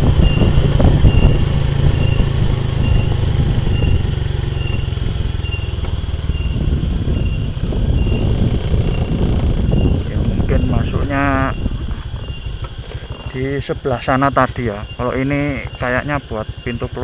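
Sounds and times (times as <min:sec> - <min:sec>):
vehicle engine and wind rumble: 0:00.0 - 0:17.0.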